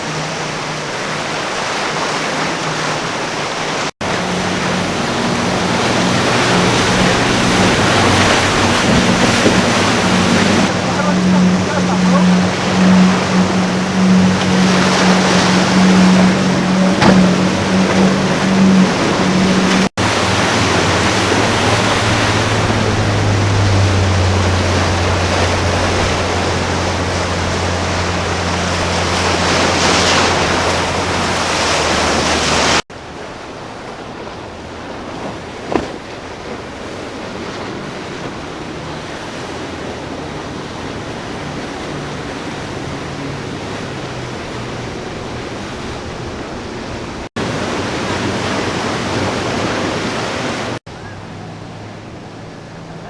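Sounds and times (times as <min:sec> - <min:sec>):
motorboat engines droning: 0:00.0 - 0:53.0
waves rushing: 0:00.0 - 0:53.0
wind: 0:00.0 - 0:53.0.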